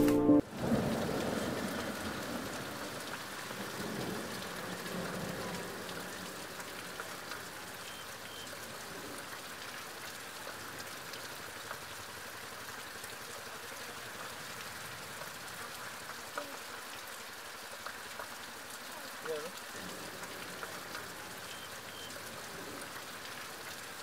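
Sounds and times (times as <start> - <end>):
heavy rain on foliage: 0.0 - 24.0.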